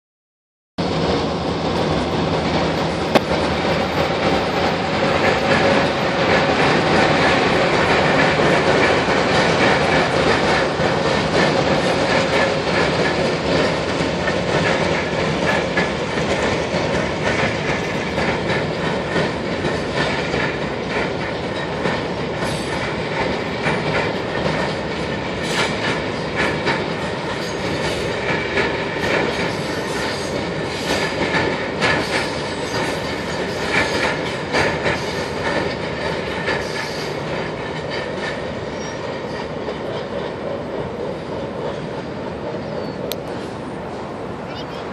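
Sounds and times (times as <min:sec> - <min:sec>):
train wheels rumbling on rails: 0:00.8 - 0:44.9.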